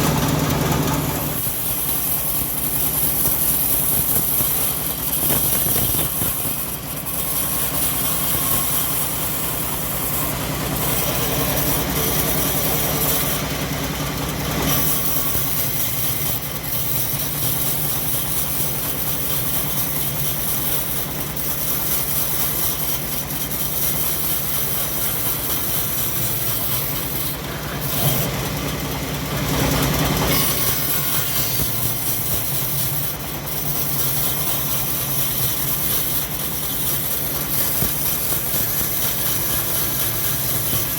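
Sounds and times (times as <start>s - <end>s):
saw blade cutting logs: 0.0s - 40.9s
sawmill engine running: 0.0s - 40.9s.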